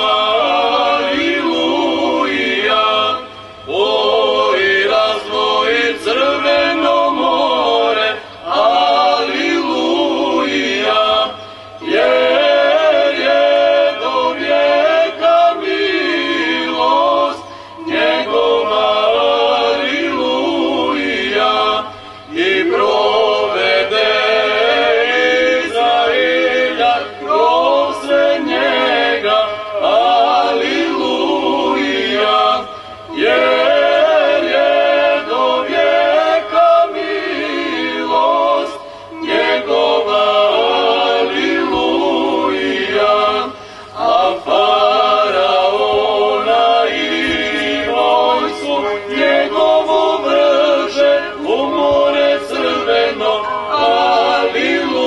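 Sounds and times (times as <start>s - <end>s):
choir singing a cappella chant: 0.0s - 55.0s.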